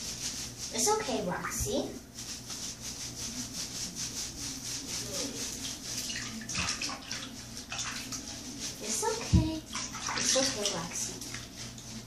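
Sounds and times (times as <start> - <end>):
hands scrubbing wet fur: 0.0 - 12.0.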